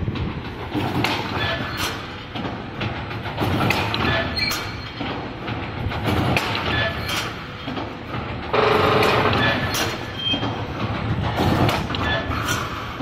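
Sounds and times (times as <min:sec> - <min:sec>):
loud harsh machine noise: 0:00.0 - 0:13.0
machine rumble: 0:00.0 - 0:13.0.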